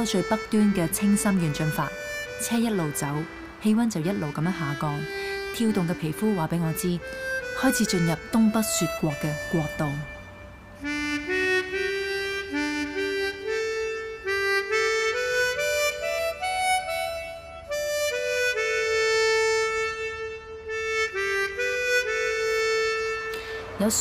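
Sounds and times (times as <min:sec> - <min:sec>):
slow instrumental melody: 0:00.0 - 0:23.8.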